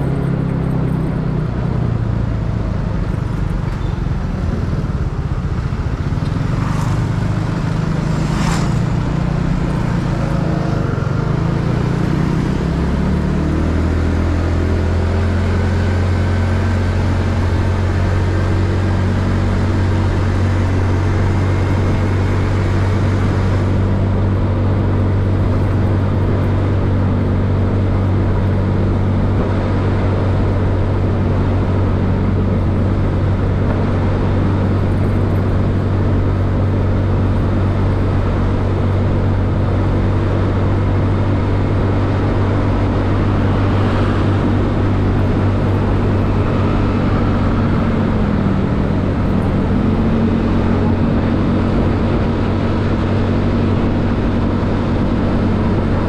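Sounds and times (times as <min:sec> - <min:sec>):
scooter engine running: 0:00.0 - 0:13.7, 0:14.8 - 0:56.0
road noise: 0:00.0 - 0:56.0.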